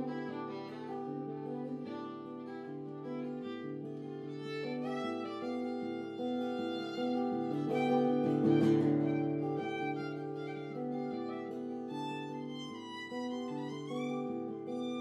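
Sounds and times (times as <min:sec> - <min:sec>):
bowed strings with violin: 0:00.0 - 0:15.0.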